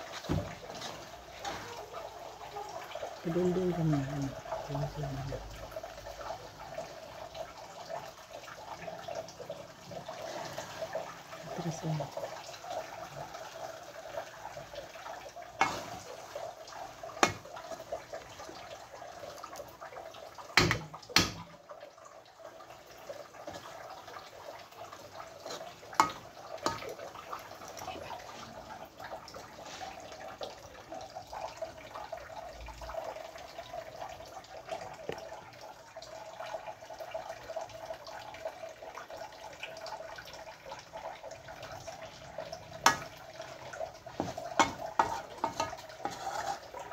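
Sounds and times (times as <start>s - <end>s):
thick mixture bubbling and stirred: 0.0s - 46.9s.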